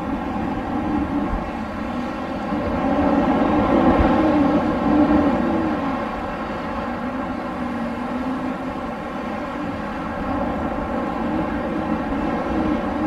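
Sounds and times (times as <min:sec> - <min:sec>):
wind blowing and whistling: 0:00.0 - 0:13.0.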